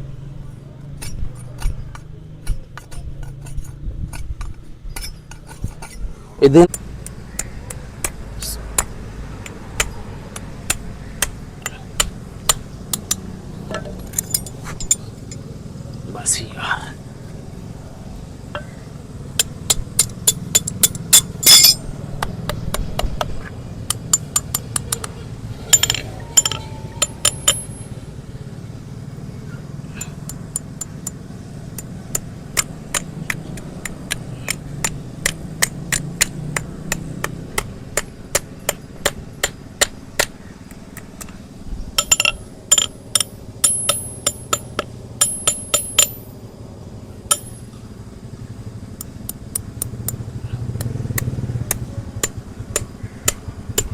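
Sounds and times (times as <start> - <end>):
hoof-trimming tools tapping: 0.9 - 16.0, 18.5 - 28.0, 30.0 - 41.4, 42.0 - 46.4, 47.3 - 47.8, 49.0 - 53.9.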